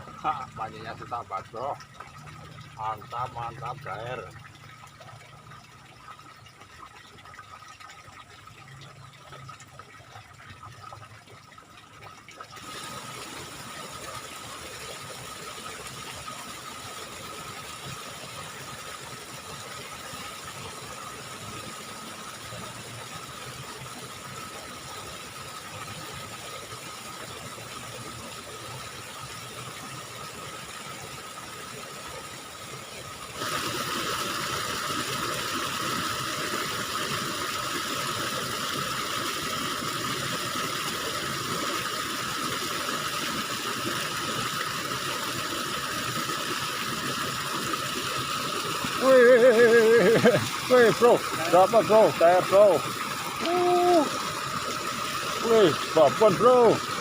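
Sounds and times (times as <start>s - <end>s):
water flowing in a ditch: 0.0s - 57.0s.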